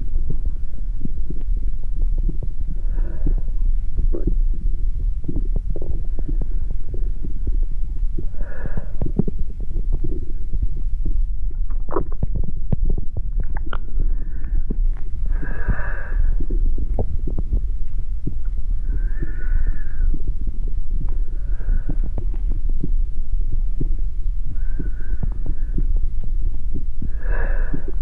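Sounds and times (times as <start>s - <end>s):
low rumbling throb: 0.0s - 28.0s.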